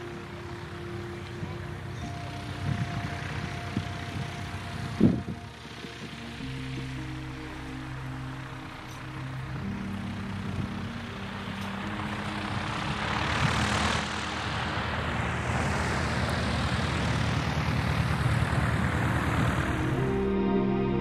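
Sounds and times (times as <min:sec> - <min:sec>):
propeller aircraft engine drone: 0:00.0 - 0:21.0.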